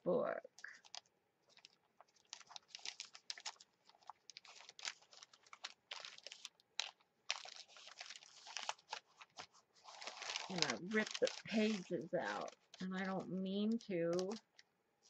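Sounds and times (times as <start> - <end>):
notebook paper crinkling and tearing: 0.6 - 14.6.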